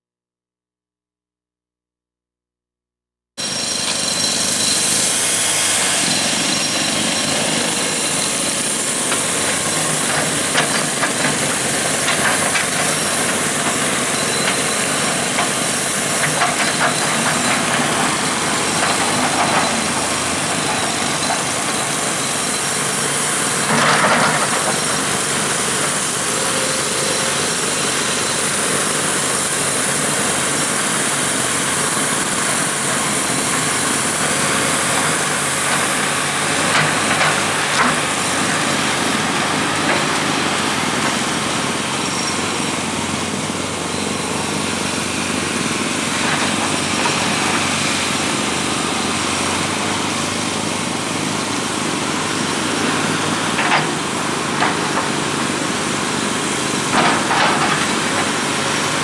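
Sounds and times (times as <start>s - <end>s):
machinery engines rushing: 3.4s - 59.0s.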